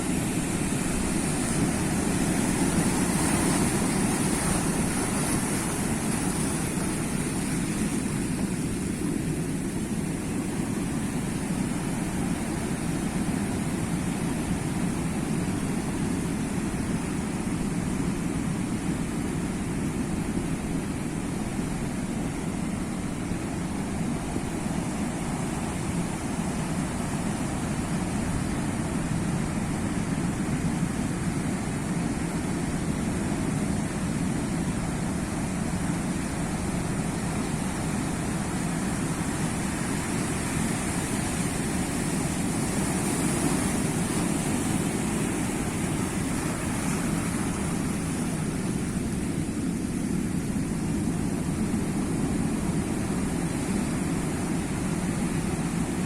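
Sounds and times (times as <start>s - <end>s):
sea waves washing onto shore: 0.0s - 56.0s.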